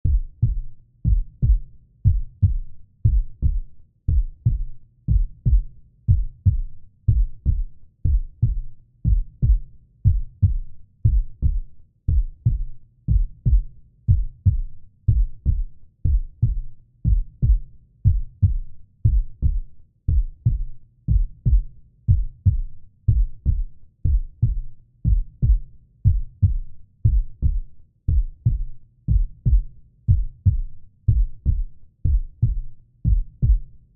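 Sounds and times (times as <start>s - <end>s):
heartbeat thumps: 0.0s - 33.8s.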